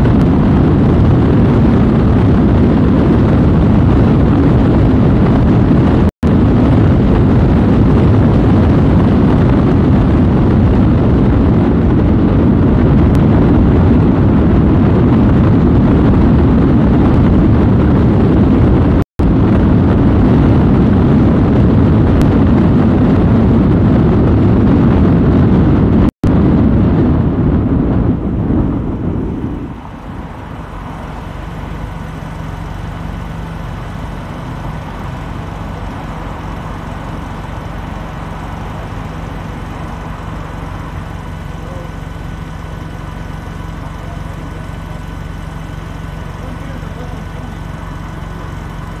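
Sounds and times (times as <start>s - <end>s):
car road and engine noise: 0.0s - 49.0s.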